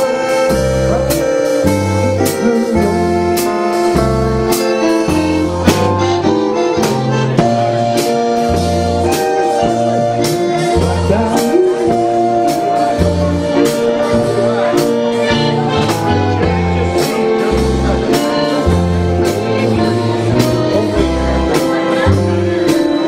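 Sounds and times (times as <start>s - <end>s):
electronic accordion chords: 0.0s - 23.0s
live band playing country ballad: 0.0s - 23.0s.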